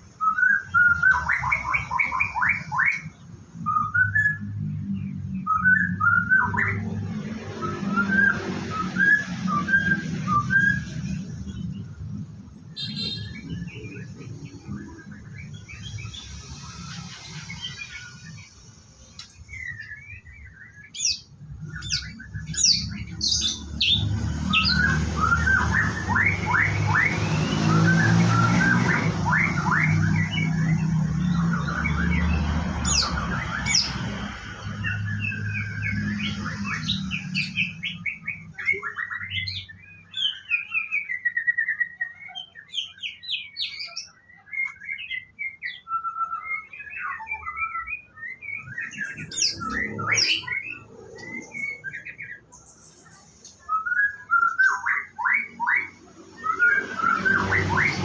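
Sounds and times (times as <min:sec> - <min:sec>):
bird singing chirps and whistles: 0:00.0 - 0:58.0.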